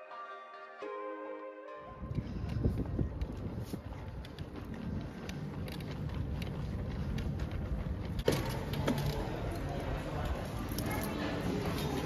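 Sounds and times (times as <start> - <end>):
street background rumble: 2.0 - 12.0.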